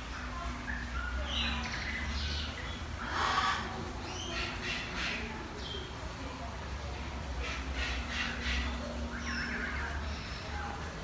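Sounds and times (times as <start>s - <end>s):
birds chirping and squawking: 0.0s - 6.0s, 7.1s - 11.0s.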